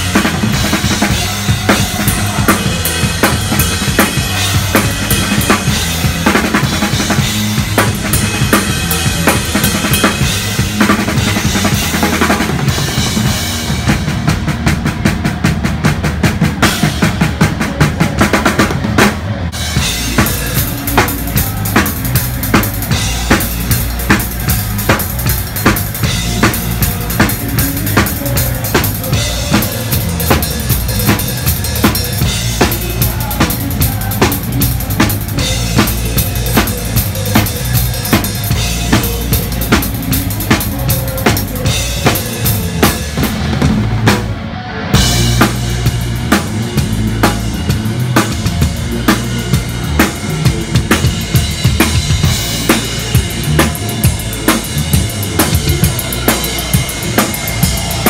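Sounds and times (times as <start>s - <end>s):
band low end: 0.0s - 58.0s
heavy metal drum kit: 0.0s - 58.0s.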